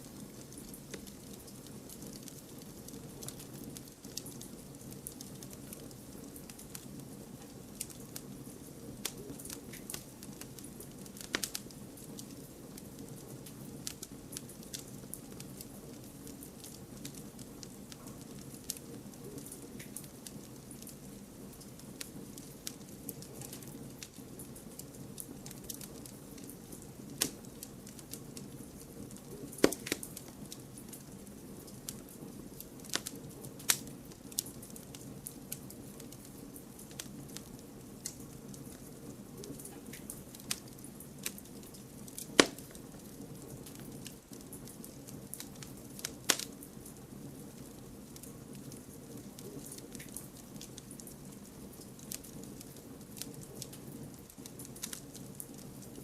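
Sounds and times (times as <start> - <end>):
burning wood crackling and popping: 0.0 - 56.0
campfire burning: 0.0 - 56.0.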